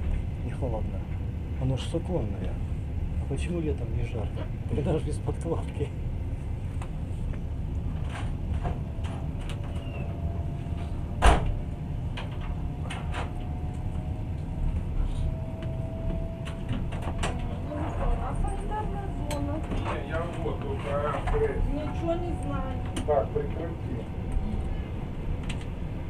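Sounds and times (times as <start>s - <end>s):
train carriage rumbling: 0.0s - 26.0s.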